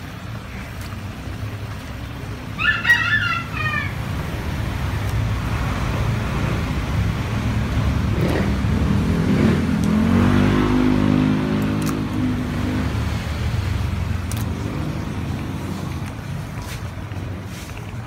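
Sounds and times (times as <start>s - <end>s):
vehicle engine running: 0.0s - 3.0s, 3.6s - 18.0s.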